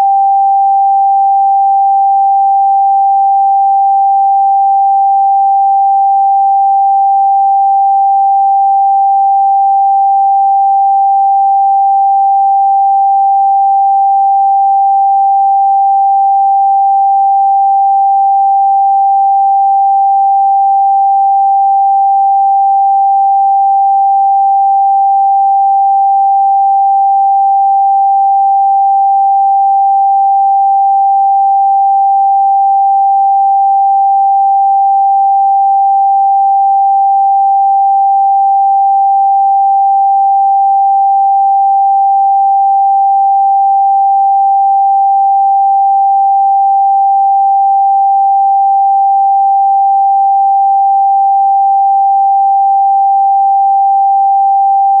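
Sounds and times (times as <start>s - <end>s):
steady sine tone: 0.0s - 55.0s.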